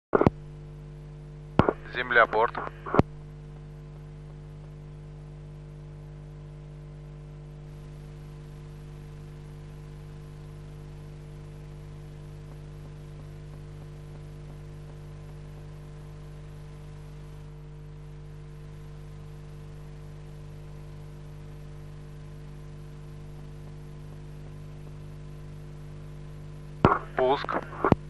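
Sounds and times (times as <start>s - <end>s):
electrical hum with hiss: 0.2s - 28.0s.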